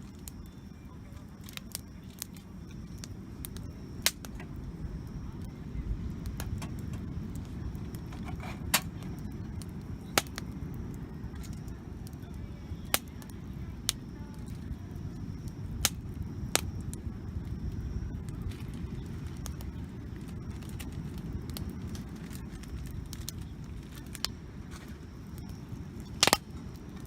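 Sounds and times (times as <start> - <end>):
campfire wood crackling: 0.0 - 27.0
low rumble: 2.1 - 27.0.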